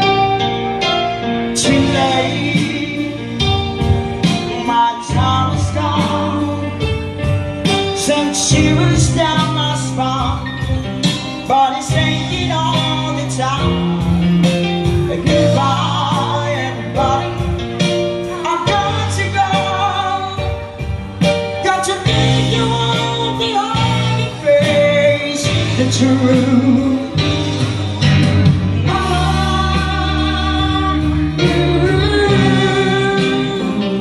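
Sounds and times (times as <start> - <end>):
electronic keyboard with steady beat: 0.0 - 34.0
person singing: 0.0 - 34.0.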